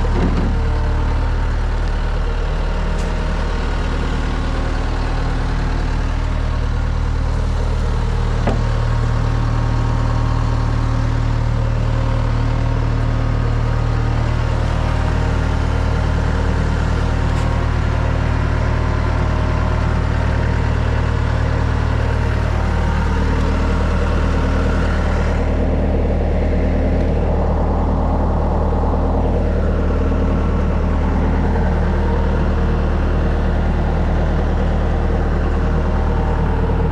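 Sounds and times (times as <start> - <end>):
skid steer engine running: 0.0 - 36.9.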